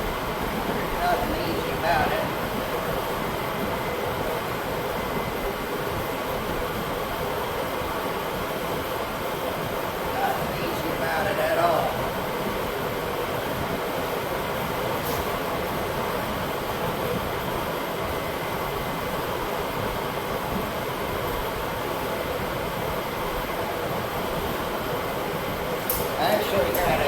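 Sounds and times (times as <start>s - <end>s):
fan blowing with faint hum: 0.0s - 27.0s.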